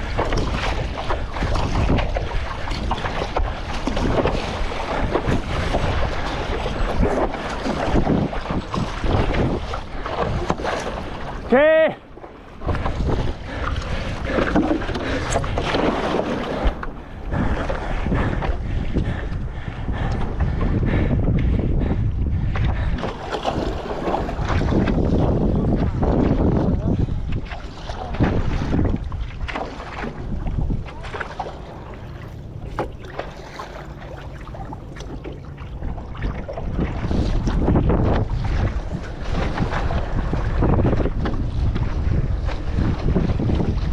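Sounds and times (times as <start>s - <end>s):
water splashing and slapping: 0.0s - 43.9s
wind rumbling on microphone: 0.0s - 43.9s.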